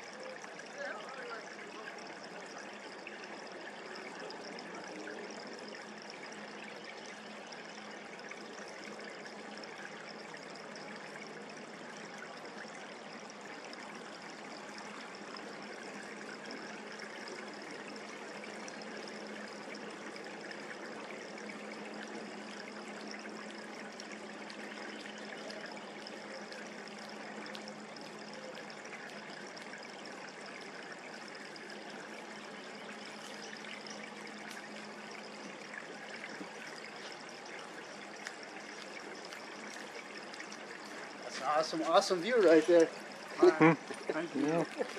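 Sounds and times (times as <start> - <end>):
creek water flowing: 0.0 - 44.9.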